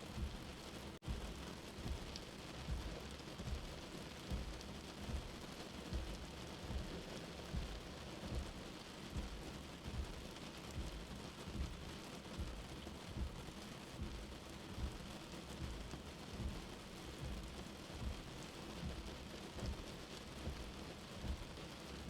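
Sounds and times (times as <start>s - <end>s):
steady rain: 0.0s - 22.0s
low heartbeat thump: 0.1s - 21.6s.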